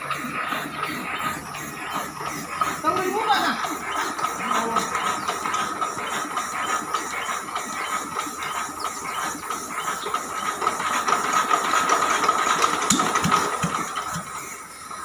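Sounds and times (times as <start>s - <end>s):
diesel engine coughing and chugging: 0.0s - 15.0s.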